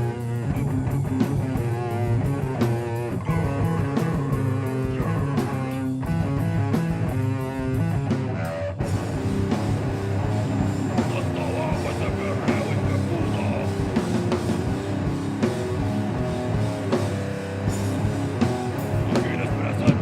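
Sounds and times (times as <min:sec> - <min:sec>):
metal band playing live: 0:00.0 - 0:20.0.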